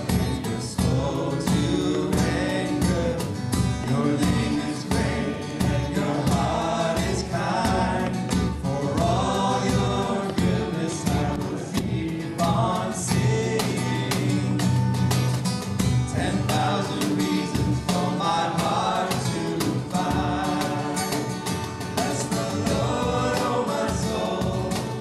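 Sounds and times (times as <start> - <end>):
song with singing and beat: 0.0 - 25.0.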